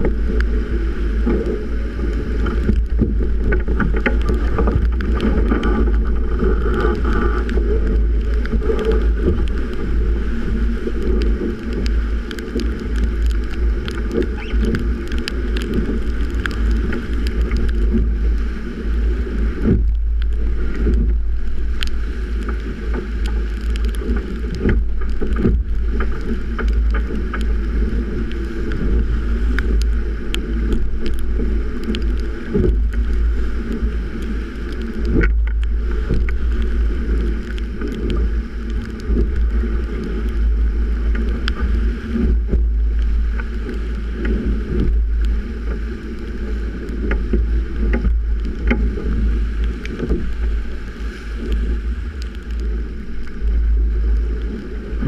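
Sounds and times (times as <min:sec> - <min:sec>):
water rushing along hull: 0:00.0 - 0:55.0
waves slapping: 0:00.0 - 0:55.0
wind buffeting microphone: 0:00.0 - 0:55.0.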